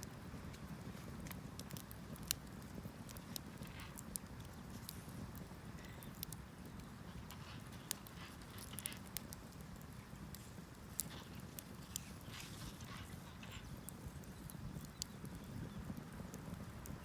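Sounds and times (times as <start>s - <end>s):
firewood crackling and popping: 0.0s - 17.0s.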